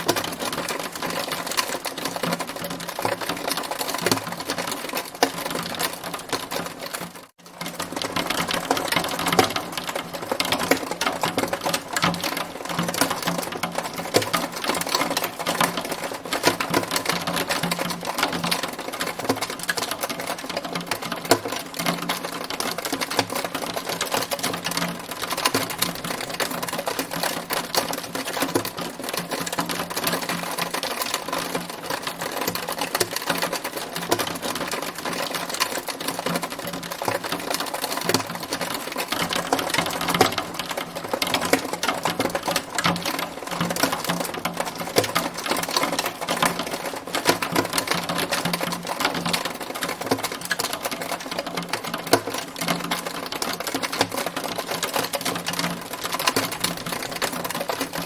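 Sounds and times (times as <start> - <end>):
hailstones hitting hard surface: 0.0 - 58.0.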